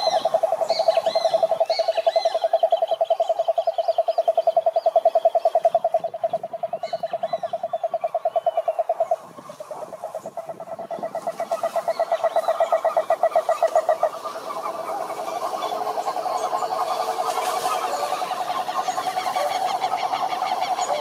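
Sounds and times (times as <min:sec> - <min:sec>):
frog chorus croaking: 0:00.0 - 0:21.0.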